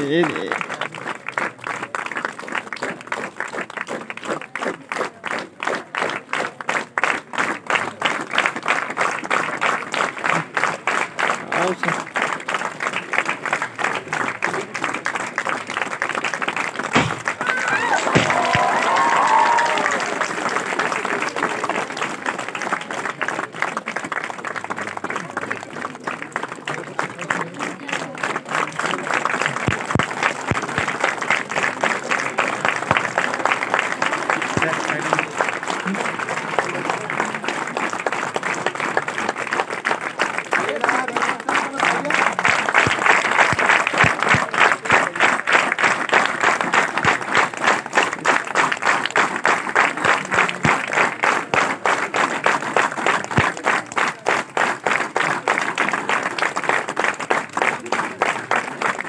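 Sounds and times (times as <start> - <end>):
crowd applauding: 0.0 - 59.0.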